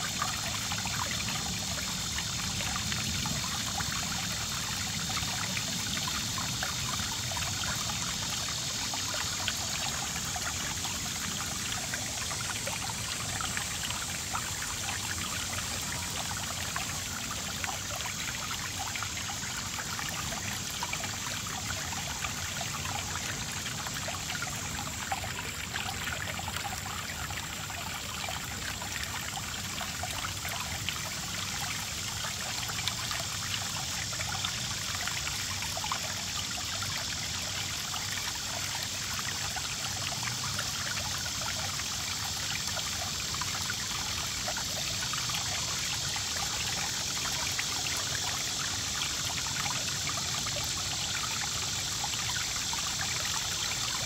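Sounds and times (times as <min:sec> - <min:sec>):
fountain water trickling and splashing: 0:00.0 - 0:54.0.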